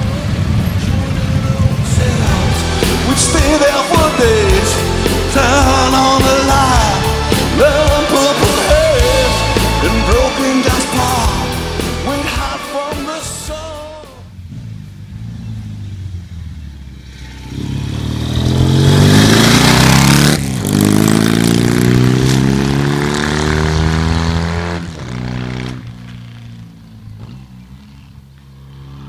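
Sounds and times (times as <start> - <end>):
motorcycle engine revving: 0.0 - 12.6, 13.5 - 29.0.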